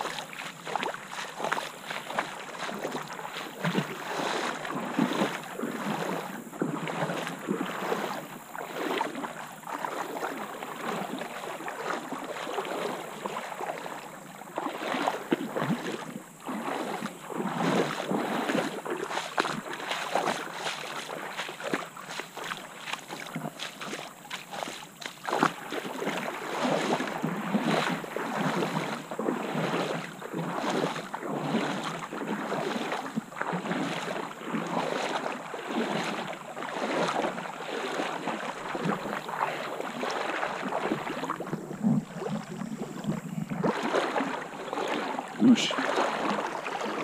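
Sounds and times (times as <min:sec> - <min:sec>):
water splashing around wading legs: 0:00.0 - 0:47.0.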